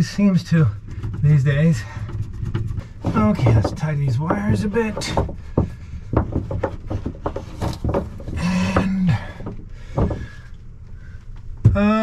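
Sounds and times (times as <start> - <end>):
hands rubbing wires: 0.0 - 11.6.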